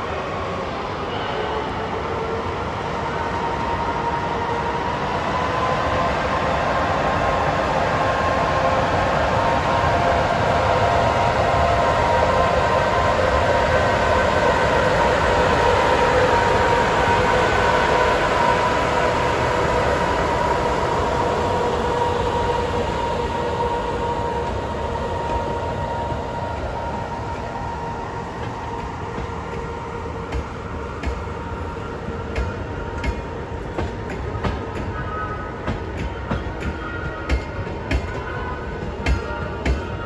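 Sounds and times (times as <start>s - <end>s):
electric locomotive whine: 0.0s - 40.0s.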